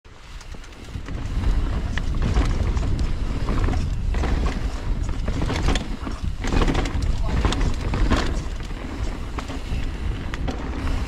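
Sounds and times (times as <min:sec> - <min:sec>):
bike rattling clicks: 0:00.1 - 0:11.0
wind buffeting microphone: 0:00.2 - 0:11.0.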